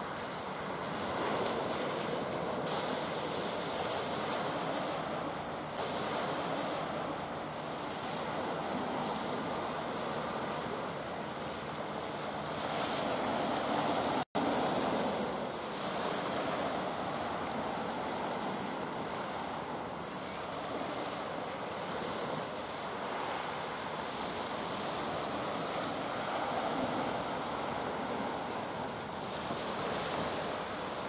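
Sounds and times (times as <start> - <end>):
sea waves: 0.0 - 31.0.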